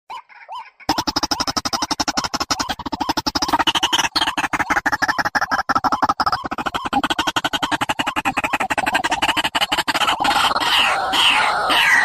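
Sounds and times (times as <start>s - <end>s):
bird calls: 0.1s - 12.0s.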